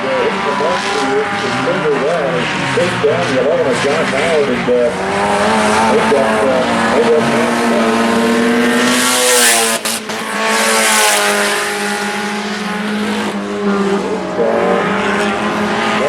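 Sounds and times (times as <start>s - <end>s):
race car engines at high revs: 0.0s - 16.0s
car passing close: 0.1s - 16.0s.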